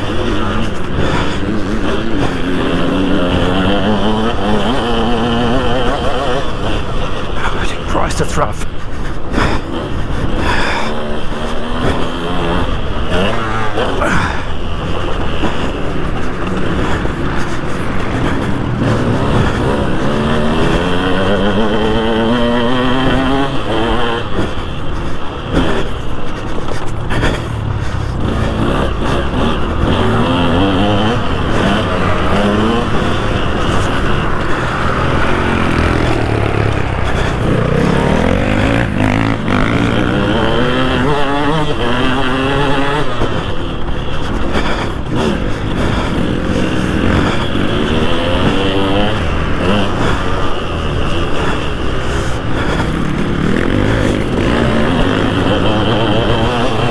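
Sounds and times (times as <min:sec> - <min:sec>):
two-stroke engine revving: 0:00.0 - 0:56.9.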